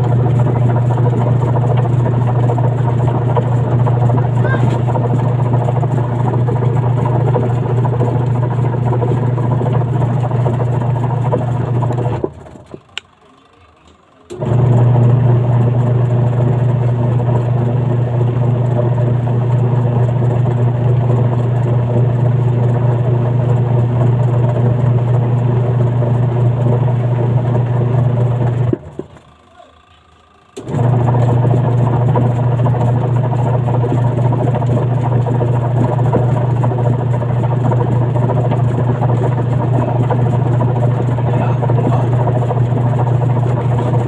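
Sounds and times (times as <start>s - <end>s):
washing machine motor humming: 0.0s - 44.0s.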